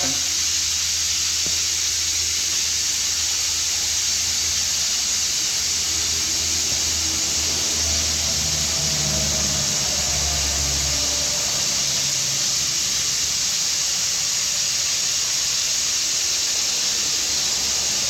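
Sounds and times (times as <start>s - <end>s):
compressed air hissing: 0.0s - 18.0s.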